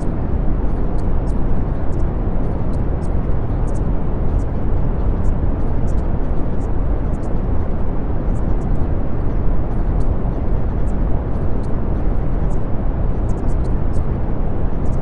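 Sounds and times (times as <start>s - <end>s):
deep brown noise hiss: 0.0s - 15.0s.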